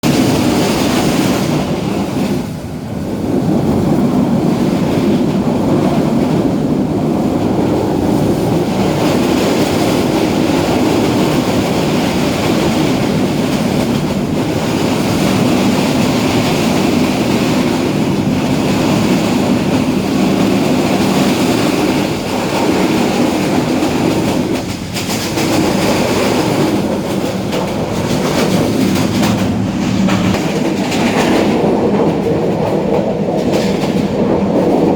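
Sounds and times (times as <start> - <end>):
train wheels rumbling on track: 0.0 - 34.9.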